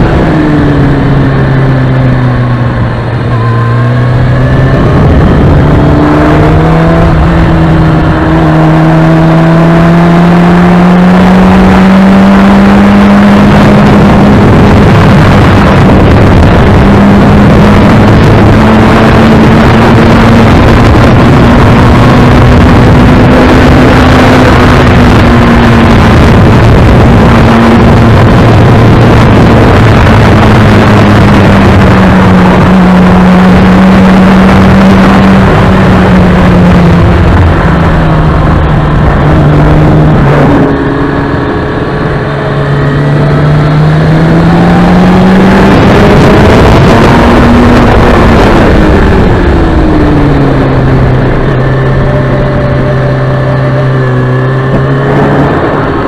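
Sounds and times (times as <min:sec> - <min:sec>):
motorcycle engine at speed: 0:00.0 - 0:56.0
wind rush on microphone: 0:00.0 - 0:56.0.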